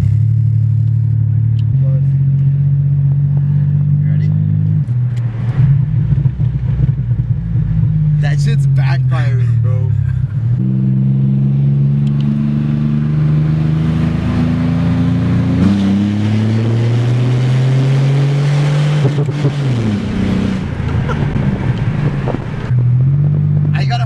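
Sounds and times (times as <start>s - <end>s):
loud car engine accelerating: 0.0s - 24.0s.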